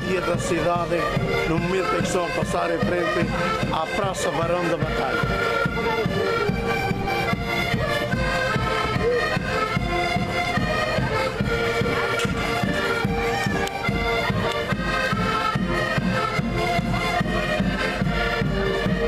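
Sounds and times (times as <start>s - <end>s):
accordions playing a tune: 0.0s - 19.0s.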